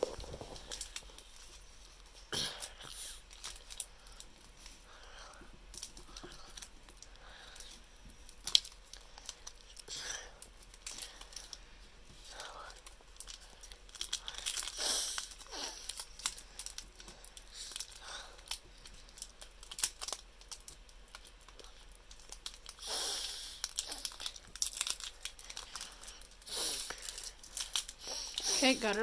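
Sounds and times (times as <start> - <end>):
foil wrapper tearing and crinkling: 0.0 - 4.3, 5.7 - 11.6, 12.2 - 29.0
small clicks and crackles: 0.0 - 29.0.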